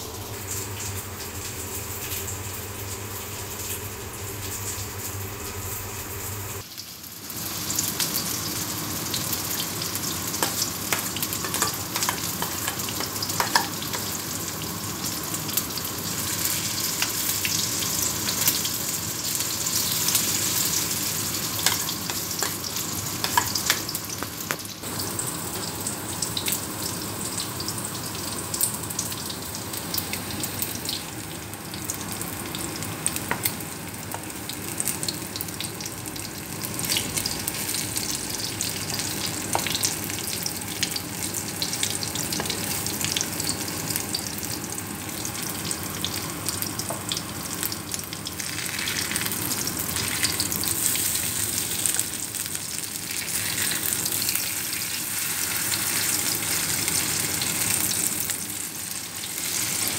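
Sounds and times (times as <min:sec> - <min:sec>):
patties sizzling in hot oil: 0:00.0 - 0:59.9.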